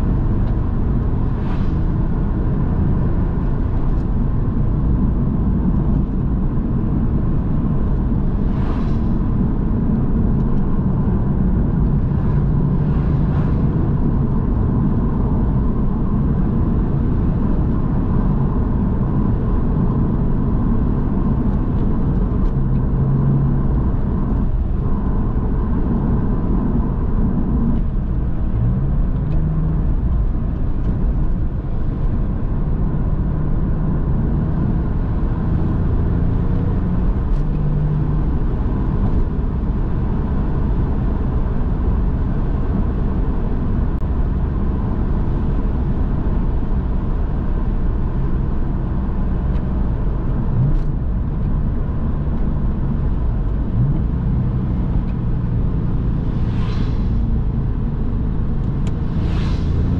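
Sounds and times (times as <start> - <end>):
car engine cruising: 0.0 - 59.9
road and tyre noise: 0.0 - 59.9.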